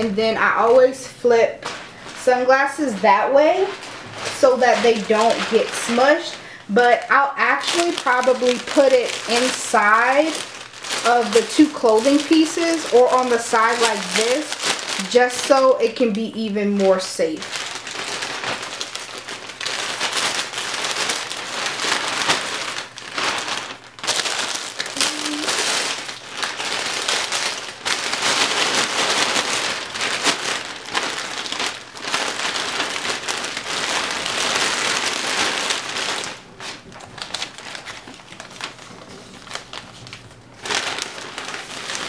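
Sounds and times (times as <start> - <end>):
plastic crinkling and rustling: 0.0 - 42.0.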